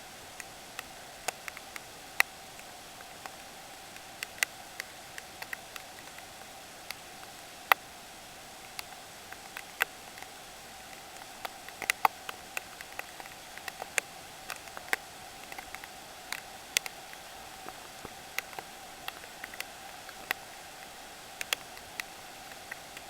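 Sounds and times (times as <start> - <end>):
faint steady hiss: 0.0 - 23.0
raindrops ticking on surface: 0.2 - 23.0.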